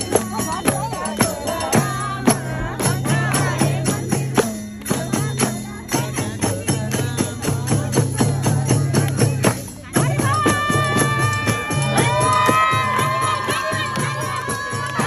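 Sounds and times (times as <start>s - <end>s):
jingling hand percussion: 0.0s - 15.0s.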